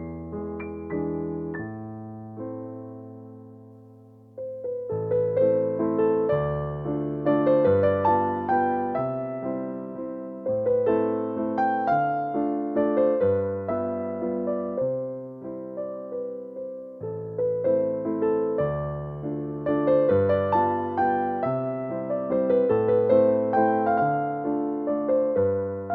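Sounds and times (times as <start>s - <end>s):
slow solo piano: 0.0s - 25.9s.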